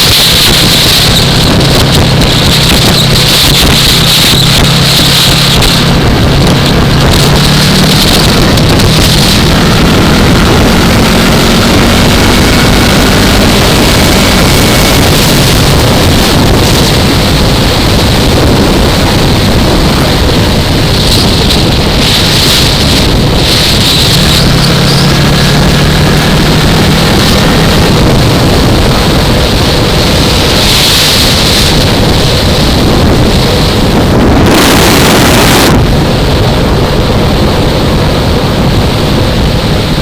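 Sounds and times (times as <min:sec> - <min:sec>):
heavy wind rush: 0:00.0 - 0:40.0
motorcycle engine running: 0:00.0 - 0:40.0.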